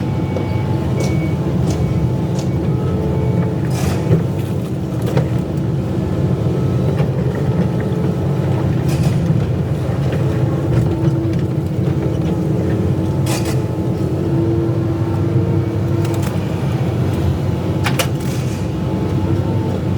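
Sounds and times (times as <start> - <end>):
excavator diesel engine running: 0.0 - 19.9.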